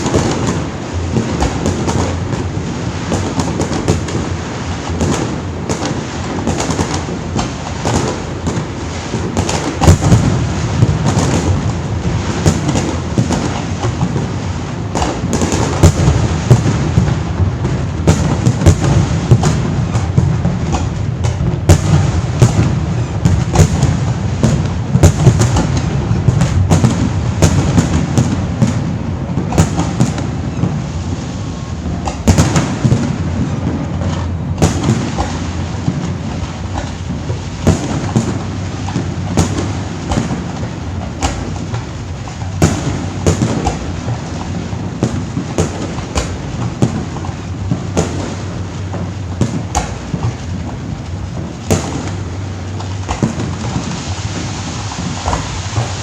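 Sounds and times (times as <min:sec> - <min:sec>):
fireworks bangs and cracks: 0:00.0 - 0:56.0
low rumble of booming shells: 0:00.0 - 0:56.0.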